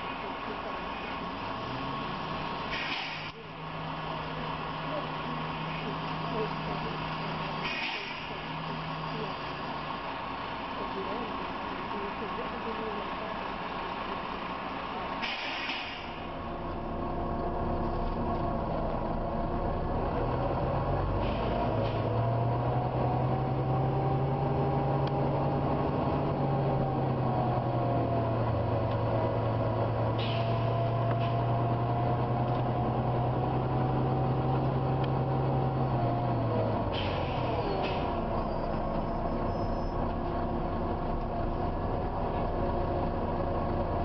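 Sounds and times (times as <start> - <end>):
bus engine drone: 0.0 - 44.0.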